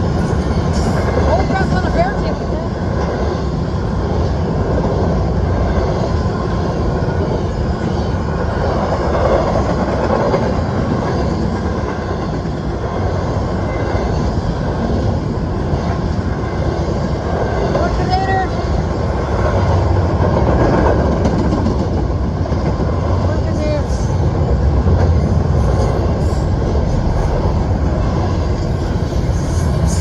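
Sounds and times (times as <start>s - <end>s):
freight train rumbling on rails: 0.0s - 30.0s.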